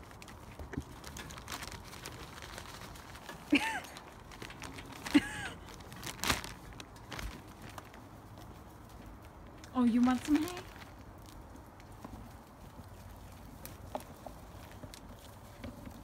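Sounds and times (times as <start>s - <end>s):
plastic bag crinkling: 0.0s - 8.6s, 9.7s - 16.0s.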